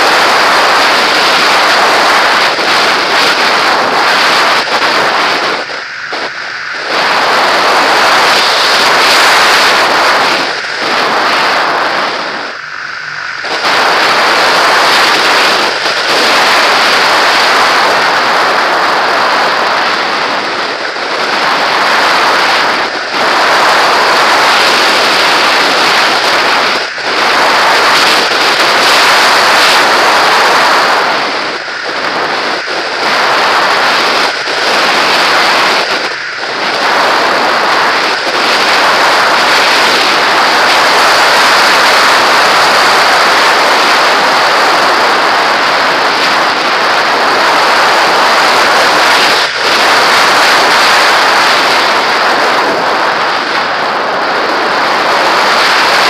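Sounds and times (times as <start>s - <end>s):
rushing wind noise: 0.0s - 56.0s.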